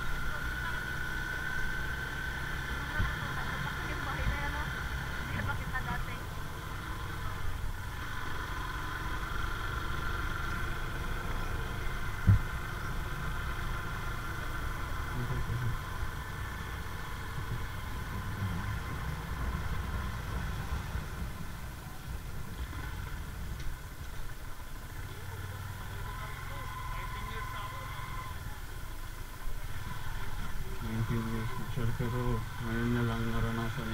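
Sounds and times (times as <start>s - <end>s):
vehicle engine rumbling: 0.0s - 33.9s.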